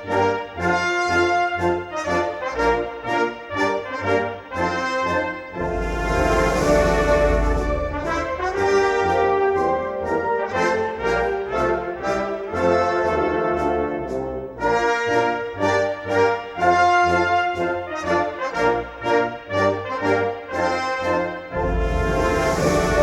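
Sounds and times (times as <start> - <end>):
brass band playing march: 0.0 - 23.0.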